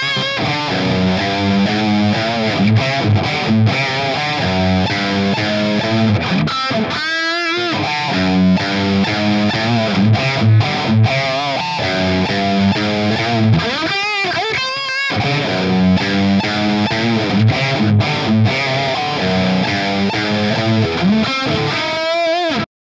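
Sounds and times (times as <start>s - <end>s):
bent guitar notes with vibrato: 0.0s - 22.7s
distorted electric guitar lead: 0.0s - 22.7s.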